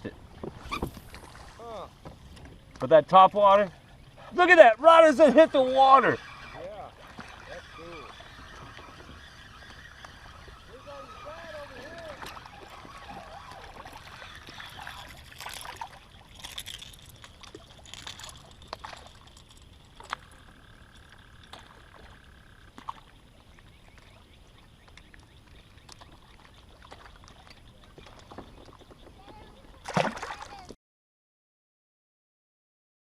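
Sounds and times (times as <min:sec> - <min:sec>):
water splashing and lapping: 0:00.0 - 0:30.8.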